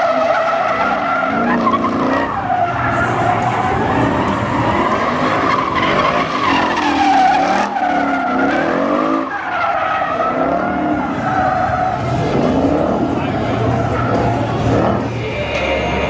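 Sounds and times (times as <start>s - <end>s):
car engine revving: 0.0s - 16.0s
tyres skidding and squealing: 0.0s - 16.0s.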